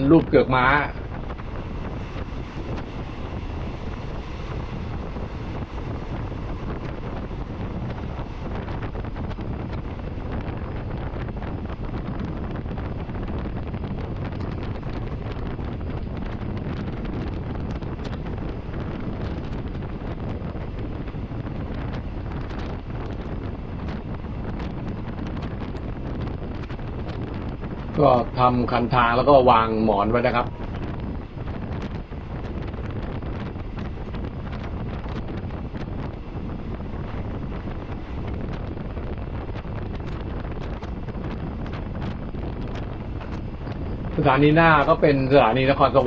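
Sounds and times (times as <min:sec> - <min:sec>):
train wheels rumbling on rail: 0:00.0 - 0:46.0
wind on microphone: 0:00.0 - 0:46.0.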